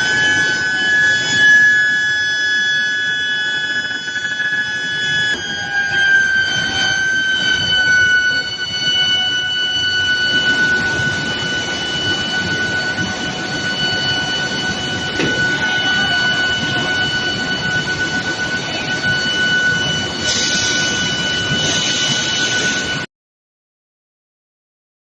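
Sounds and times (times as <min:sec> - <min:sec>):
induction heater whine: 0:00.0 - 0:23.1.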